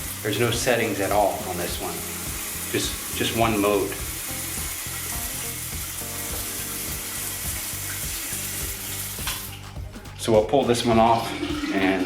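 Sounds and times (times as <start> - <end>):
shower spray hissing: 0.0 - 9.8.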